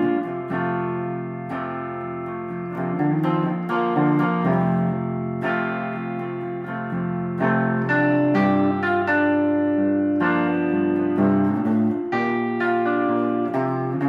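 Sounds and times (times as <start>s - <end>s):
electric guitar chords ringing: 0.0s - 14.0s.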